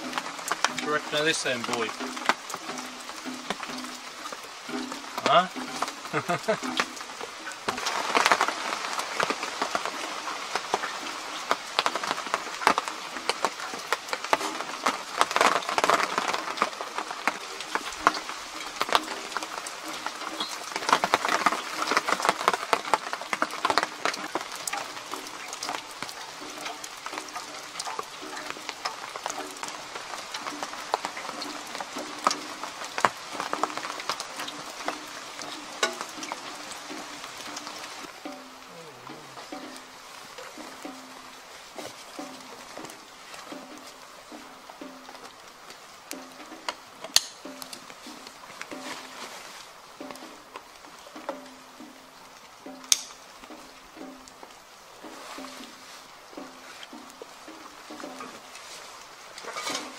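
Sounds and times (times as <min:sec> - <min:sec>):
raindrops pattering and dripping: 0:00.0 - 0:59.9
steady rain hiss: 0:00.0 - 0:59.9.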